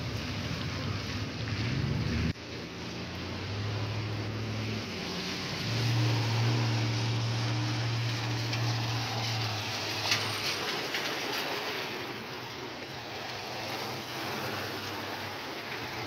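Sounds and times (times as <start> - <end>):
low engine hum: 0.0 - 16.0
tyres hissing on wet pavement: 0.0 - 16.0.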